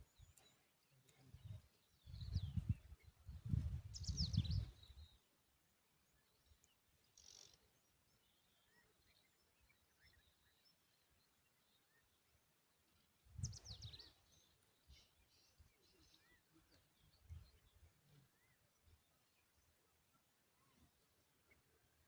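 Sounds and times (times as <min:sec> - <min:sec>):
bird chirping: 0:00.0 - 0:05.3, 0:06.0 - 0:22.0.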